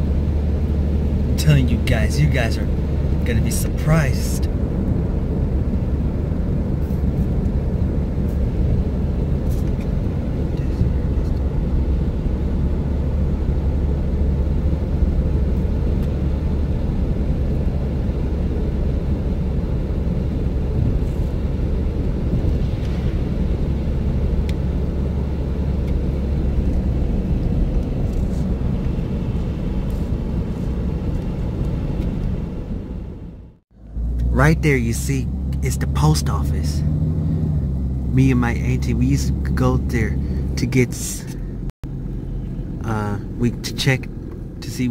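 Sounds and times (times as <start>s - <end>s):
tyres on wet road: 0.0s - 44.6s
car engine rumble: 0.0s - 44.9s.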